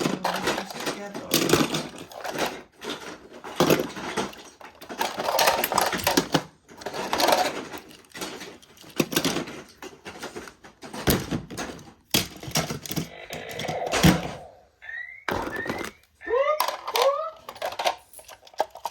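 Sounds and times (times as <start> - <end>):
toy train pieces clattering: 0.0 - 14.6, 15.4 - 18.9.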